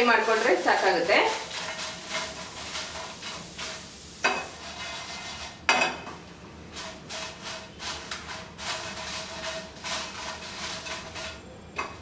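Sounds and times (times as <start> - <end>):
chillies scraping in a pan: 0.0 - 5.7, 6.6 - 12.0.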